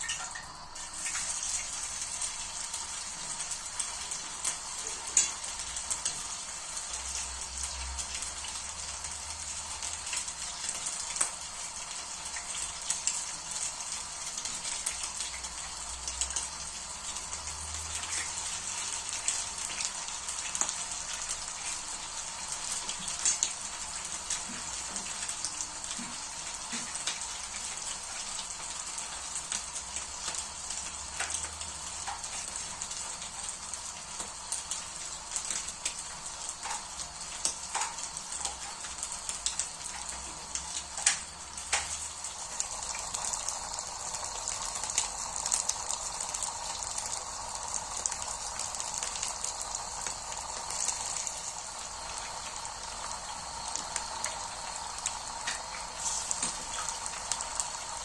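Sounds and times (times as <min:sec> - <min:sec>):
patties sizzling in oil: 0:00.0 - 0:58.0.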